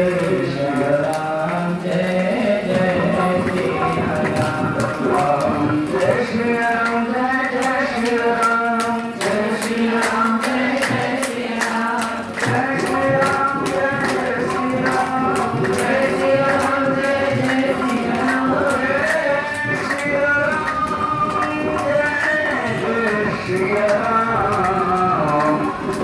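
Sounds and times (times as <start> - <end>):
steady percussion beat: 0.0 - 26.0
voices chanting held notes: 0.0 - 26.0.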